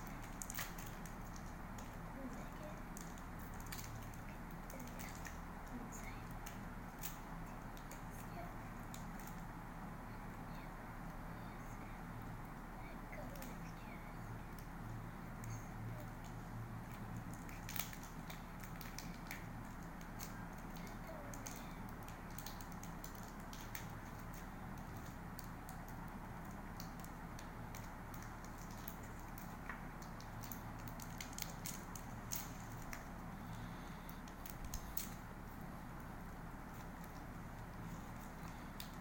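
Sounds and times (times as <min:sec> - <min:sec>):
candy wrappers crinkling: 0:00.0 - 0:09.6, 0:11.6 - 0:39.0
steady low hum: 0:00.0 - 0:39.0.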